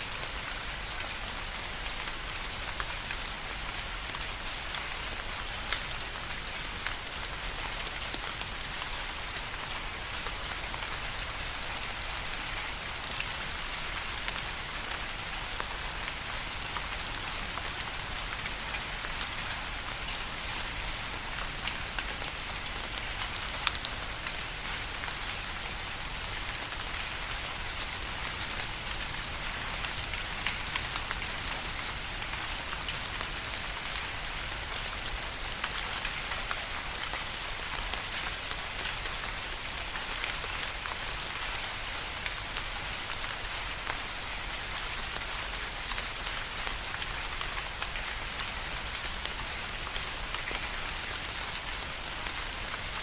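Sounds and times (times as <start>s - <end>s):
rain drops pattering: 0.0s - 53.0s.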